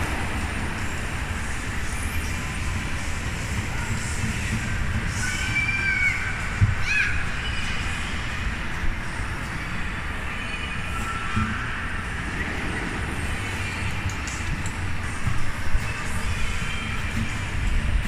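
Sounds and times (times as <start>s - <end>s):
ride machinery rumbling: 0.0s - 18.0s.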